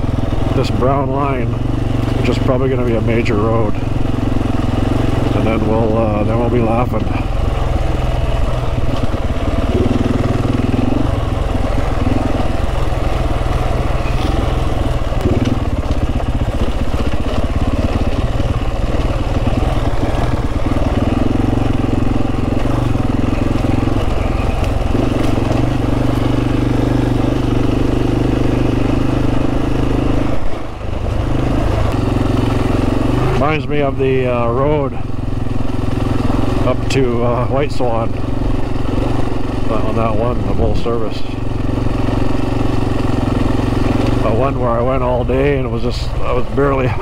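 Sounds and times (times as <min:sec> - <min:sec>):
motorcycle engine running: 0:00.0 - 0:47.0
wind and road noise: 0:00.0 - 0:47.0.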